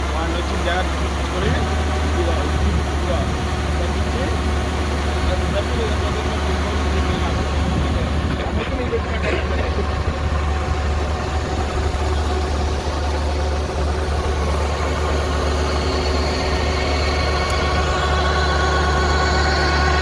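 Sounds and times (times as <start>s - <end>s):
diesel engine humming: 0.0s - 20.0s
high mechanical whine: 0.0s - 20.0s.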